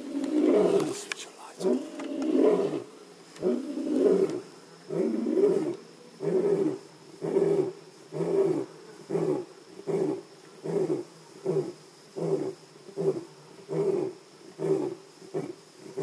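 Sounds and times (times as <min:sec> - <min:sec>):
lion roaring: 0:00.0 - 0:01.0, 0:01.6 - 0:15.5.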